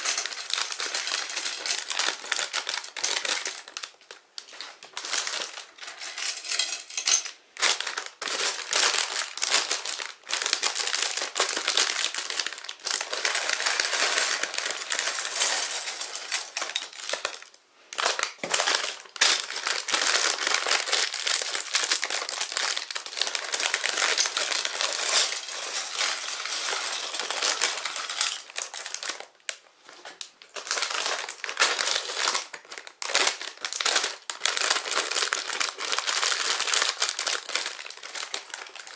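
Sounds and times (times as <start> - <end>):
plastic bags crinkling: 0.0 - 38.9.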